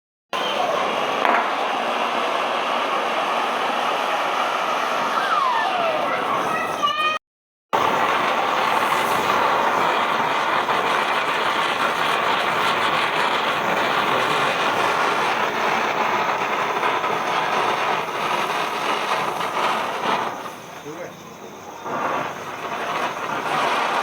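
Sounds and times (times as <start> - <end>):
firework hissing sparks: 0.4 - 7.2, 7.8 - 24.0.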